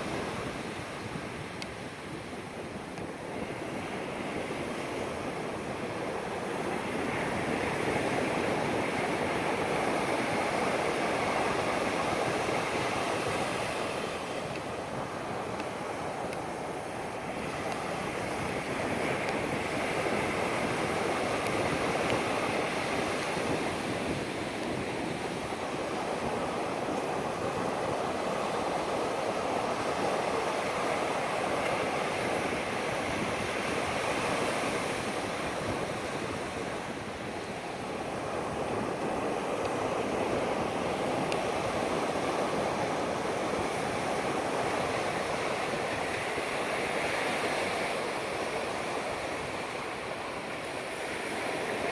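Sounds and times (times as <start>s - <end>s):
surf washing onto beach: 0.0s - 51.9s.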